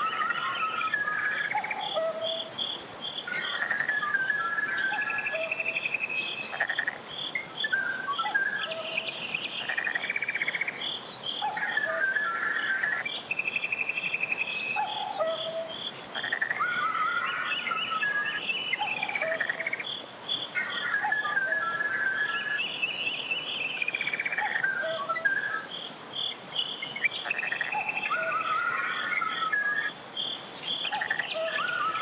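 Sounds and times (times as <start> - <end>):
birds chirping and trilling: 0.0 - 32.0.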